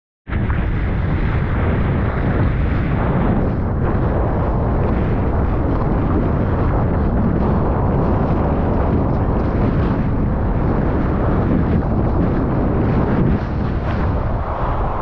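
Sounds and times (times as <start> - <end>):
rushing water: 0.3 - 15.0
wind buffeting microphone: 0.3 - 15.0.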